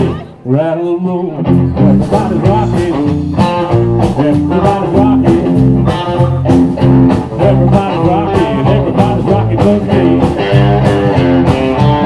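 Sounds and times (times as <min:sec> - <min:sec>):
rock and roll song: 0:00.0 - 0:12.0.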